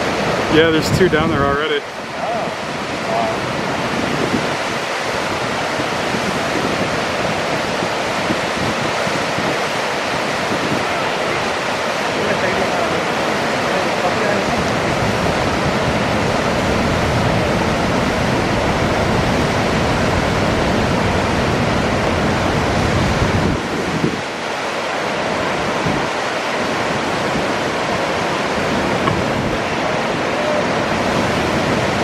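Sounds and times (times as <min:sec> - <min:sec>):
whitewater rapids rushing: 0:00.0 - 0:32.0
wind rumbling on microphone: 0:00.0 - 0:32.0.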